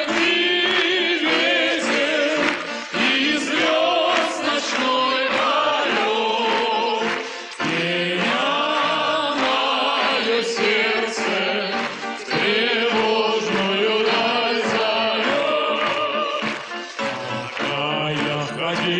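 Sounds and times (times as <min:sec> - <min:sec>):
crowd singing in chorus: 0:00.0 - 0:18.9.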